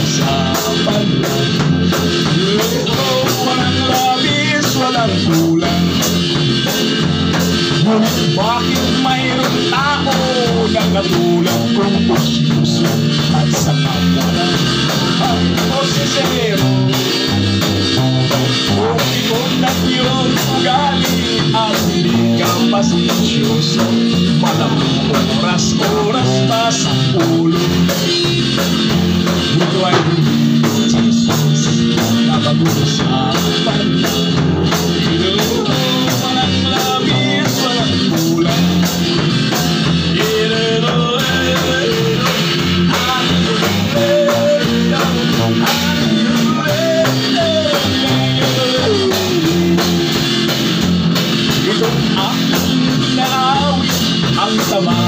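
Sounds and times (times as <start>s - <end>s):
drum beat: 0.0s - 55.0s
electric guitar: 0.0s - 55.0s.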